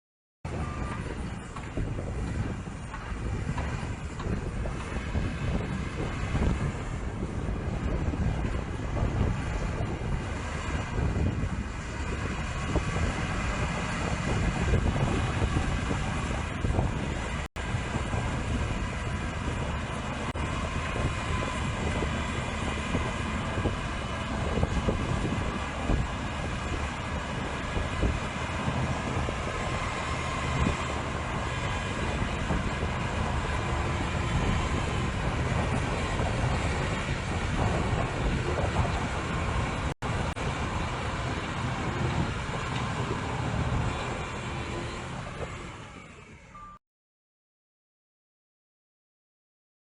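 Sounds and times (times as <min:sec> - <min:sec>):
bulldozer diesel engine running: 0:00.4 - 0:46.8
wind on microphone: 0:00.5 - 0:46.4.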